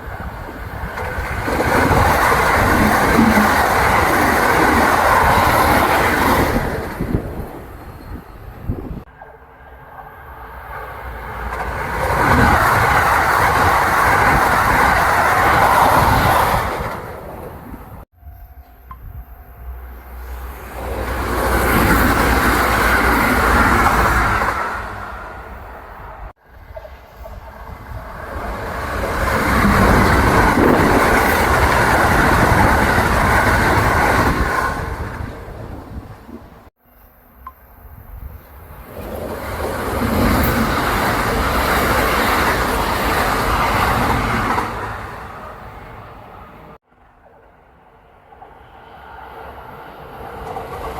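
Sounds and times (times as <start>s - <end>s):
electric train passing: 0.0s - 50.9s.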